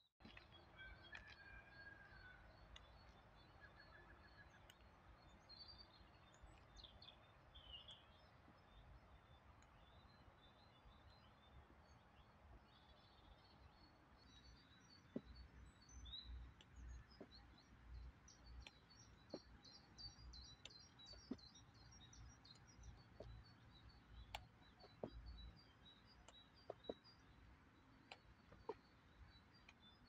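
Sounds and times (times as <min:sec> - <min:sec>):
small birds chirping: 0:00.2 - 0:30.0.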